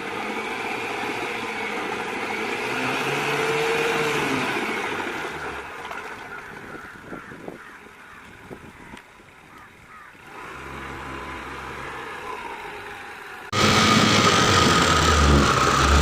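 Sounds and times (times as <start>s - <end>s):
boat engine passing: 0.0s - 6.9s, 9.2s - 16.0s.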